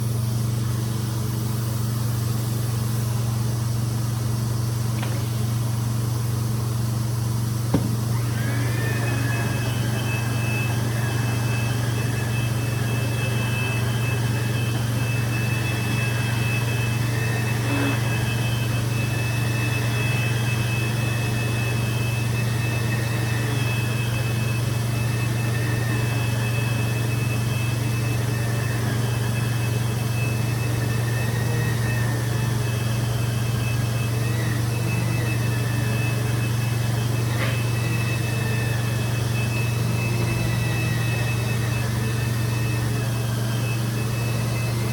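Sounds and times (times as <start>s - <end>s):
carpet cleaning machine running: 0.0s - 44.9s.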